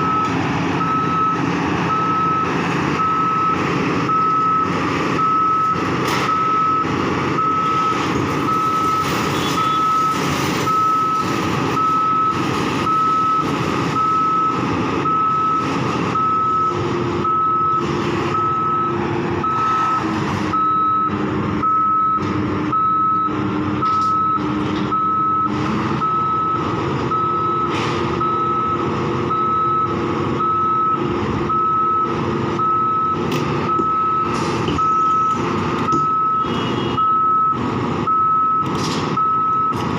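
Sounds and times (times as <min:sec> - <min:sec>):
back-up alarm beeping: 0:00.0 - 0:39.8
diesel construction machinery running: 0:00.0 - 0:39.9.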